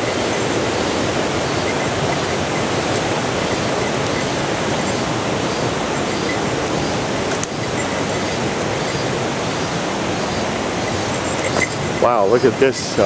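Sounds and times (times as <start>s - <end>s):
white water rushing: 0.0s - 13.0s.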